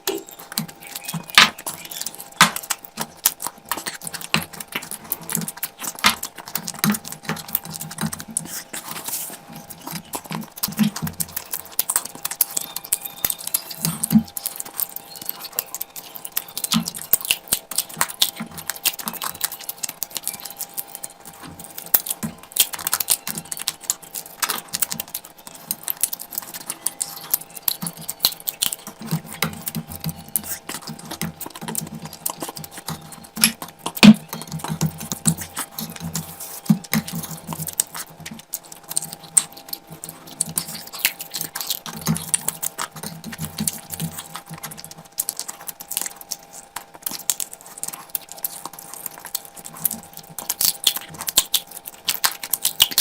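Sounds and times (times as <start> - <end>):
person chewing wetly: 0.0 - 53.0.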